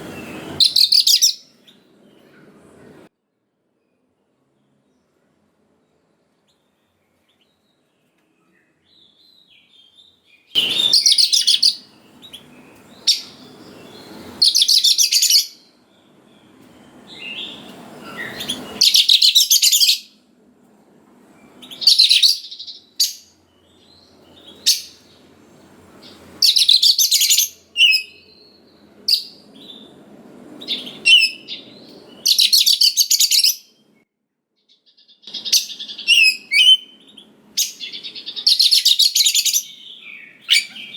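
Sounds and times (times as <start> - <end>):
bird chirps: 0.0 - 2.4, 6.5 - 20.2, 21.4 - 25.3, 26.0 - 30.0, 30.6 - 34.0, 34.6 - 40.9
songbird singing: 0.0 - 2.6, 5.8 - 20.2, 21.3 - 34.0, 34.6 - 40.9.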